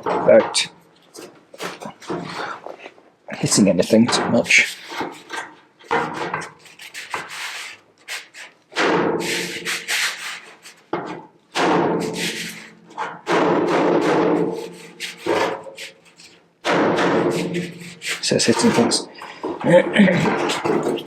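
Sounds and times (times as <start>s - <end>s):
rubbing on steel panel: 0.0s - 21.0s.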